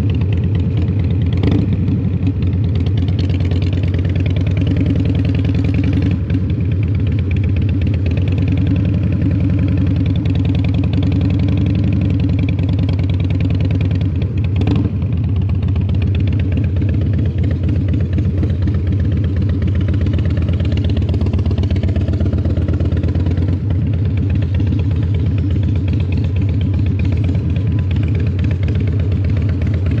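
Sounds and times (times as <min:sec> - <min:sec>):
motorcycle engine deep exhaust note: 0:01.3 - 0:30.0.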